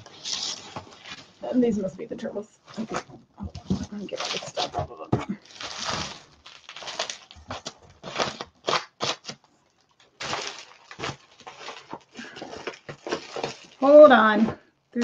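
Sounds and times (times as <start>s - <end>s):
packing material rustling: 0.0s - 1.6s, 2.6s - 14.4s.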